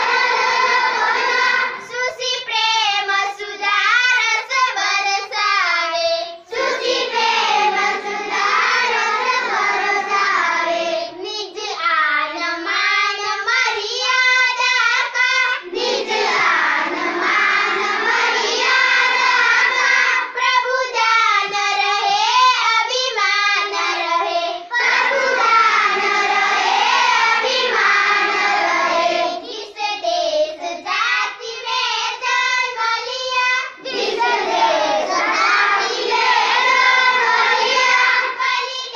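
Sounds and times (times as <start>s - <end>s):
children singing in unison: 0.0s - 38.9s.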